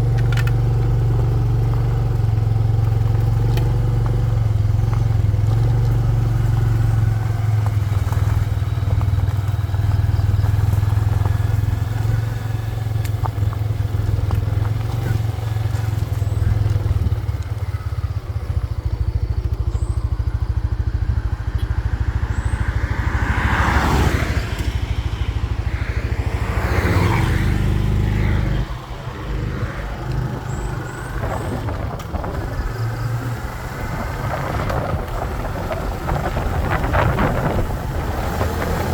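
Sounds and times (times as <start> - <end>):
small motorbike engine humming: 0.0 - 38.9.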